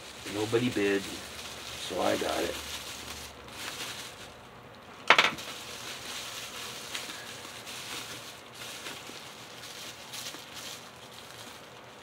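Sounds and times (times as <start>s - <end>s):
bubble wrap crinkling: 0.0s - 12.0s
sharp bubble wrap crackle: 0.0s - 12.0s.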